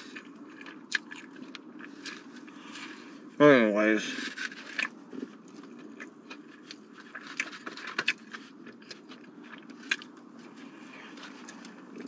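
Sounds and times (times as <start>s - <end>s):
chewing fried chicken: 0.0s - 12.0s
steady low hum: 0.0s - 12.0s.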